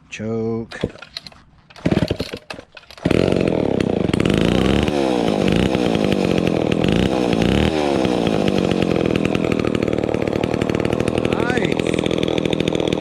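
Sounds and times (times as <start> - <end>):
two-stroke chainsaw engine running: 0.7 - 13.0.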